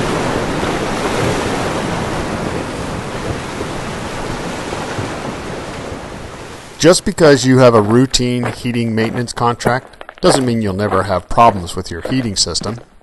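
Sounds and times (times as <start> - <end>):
ocean surf washing: 0.0 - 12.8.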